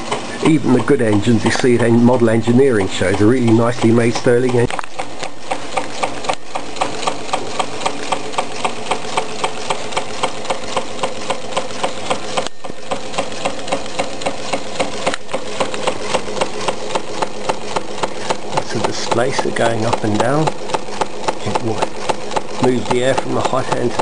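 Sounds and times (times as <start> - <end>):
engine gears clicking rhythmically: 0.0 - 24.0
light mechanical whirr: 0.0 - 24.0.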